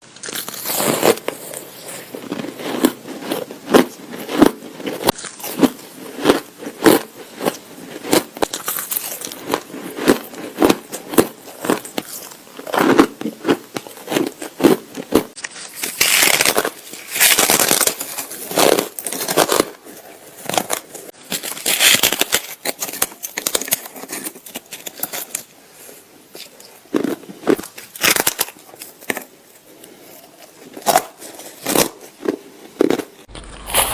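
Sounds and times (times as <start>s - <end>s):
ice being crunched and chewed: 0.2s - 33.9s.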